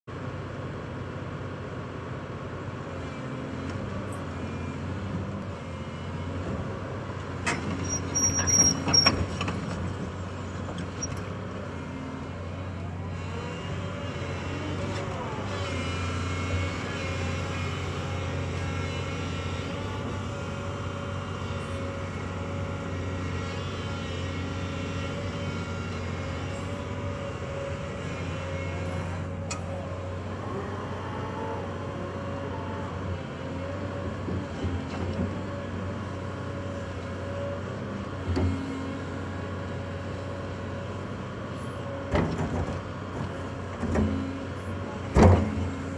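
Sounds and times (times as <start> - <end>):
excavator diesel engine running: 0.1 - 45.9.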